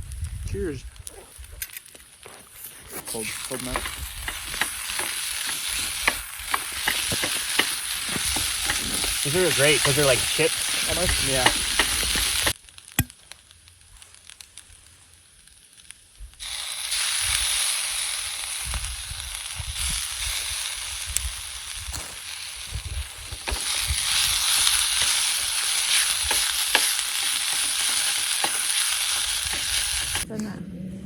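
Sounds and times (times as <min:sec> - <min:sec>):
food sizzling in a pan: 0:02.5 - 0:12.6, 0:13.7 - 0:30.3
sharp pops of frying: 0:03.4 - 0:14.7, 0:15.5 - 0:30.3.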